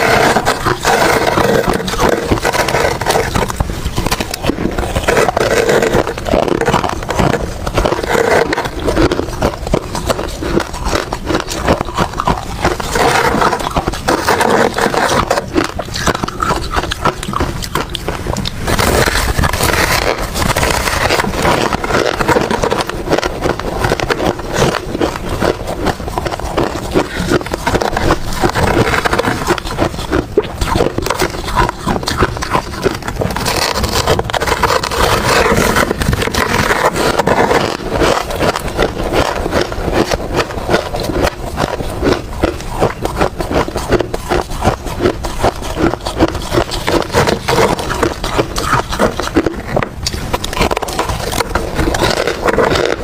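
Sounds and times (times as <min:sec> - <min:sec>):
ice crunching between teeth: 0:00.0 - 0:53.0.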